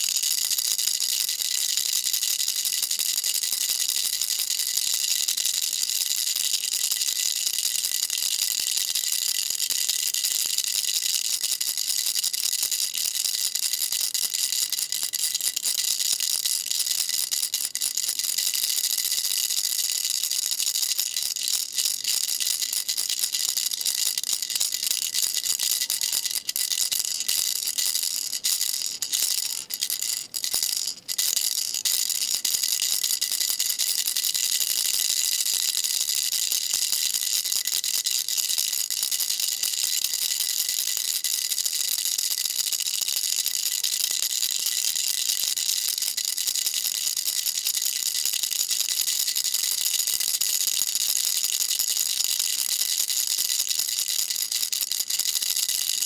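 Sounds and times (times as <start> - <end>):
baby rattle shaking: 0.0 - 56.0.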